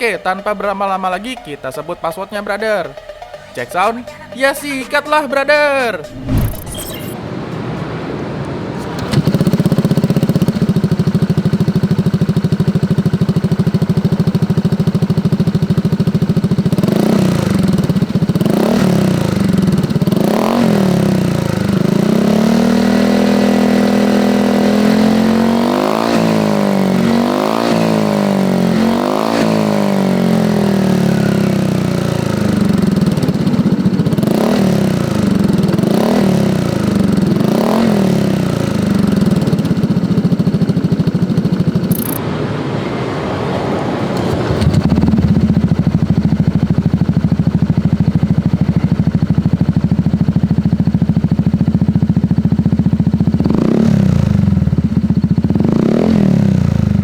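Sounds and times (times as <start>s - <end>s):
scooter engine revving: 8.1s - 57.0s.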